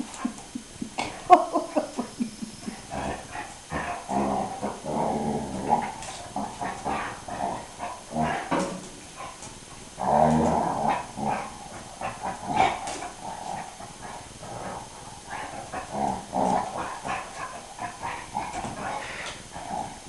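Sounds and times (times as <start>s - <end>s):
dog play growling: 0.0s - 20.0s.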